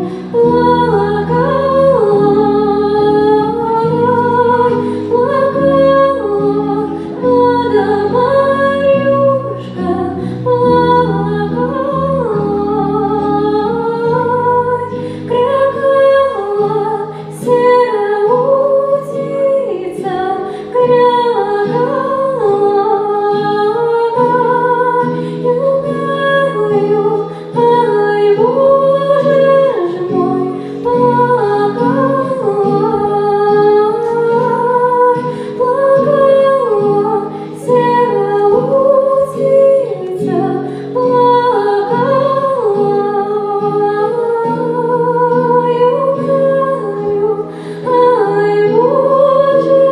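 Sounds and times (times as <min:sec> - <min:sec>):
women singing: 0:00.0 - 0:49.9.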